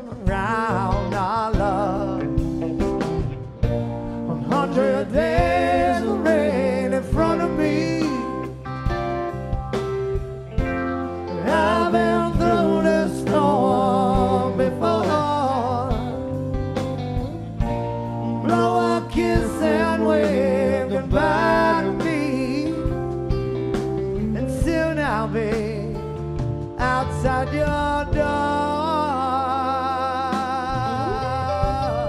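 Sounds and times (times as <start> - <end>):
live rock band playing: 0.0 - 32.0
wavering lead guitar line: 0.0 - 32.0.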